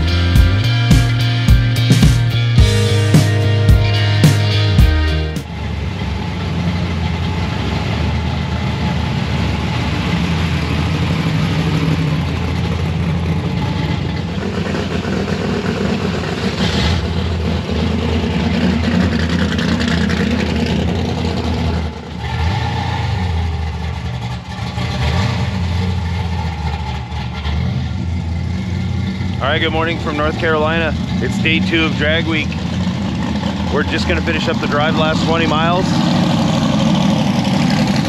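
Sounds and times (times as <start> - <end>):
car engine running: 0.0 - 38.0.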